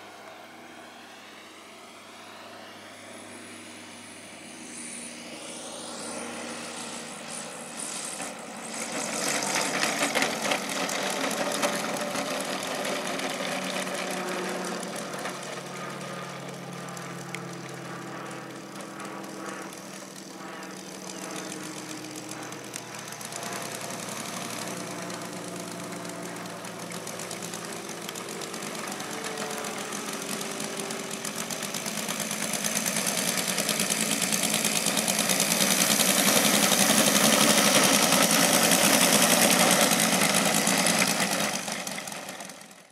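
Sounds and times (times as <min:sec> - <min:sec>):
model plane engine running: 0:00.0 - 0:42.9.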